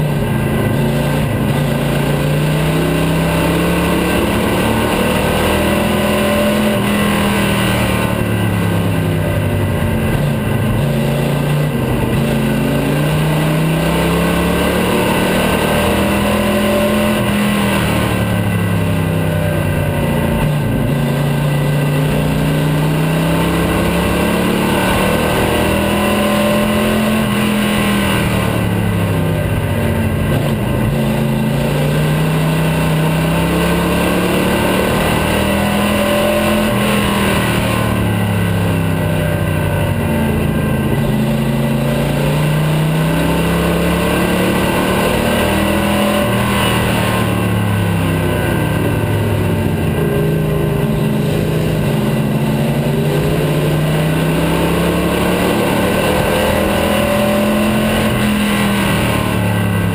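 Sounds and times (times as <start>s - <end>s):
race car engine from inside: 0.0s - 59.9s.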